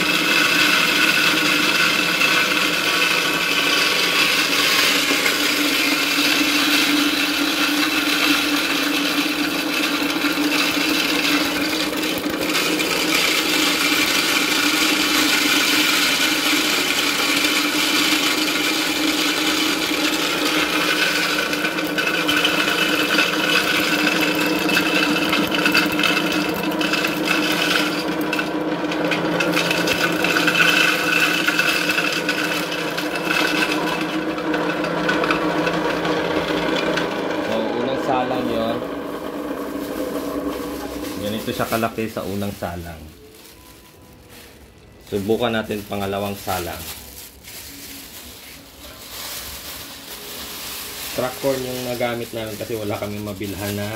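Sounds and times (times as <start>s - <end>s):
electric grinder grinding corn: 0.0s - 43.6s, 45.0s - 53.9s.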